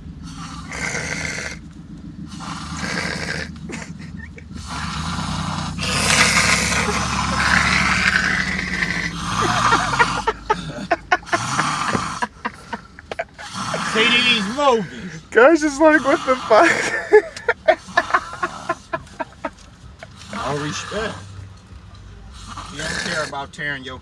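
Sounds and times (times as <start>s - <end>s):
fluttering snore rattle: 0.0s - 23.6s
man snoring heavily: 0.1s - 23.6s.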